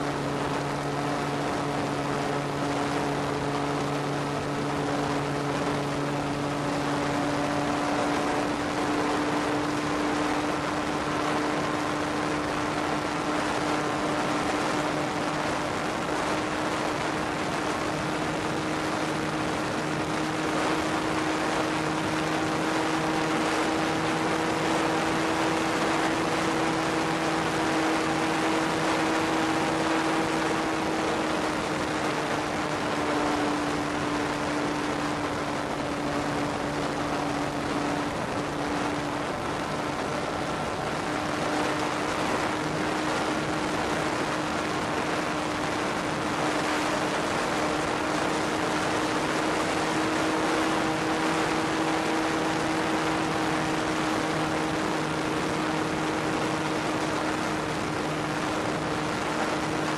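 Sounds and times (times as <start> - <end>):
model plane motor and propeller: 0.0 - 59.9.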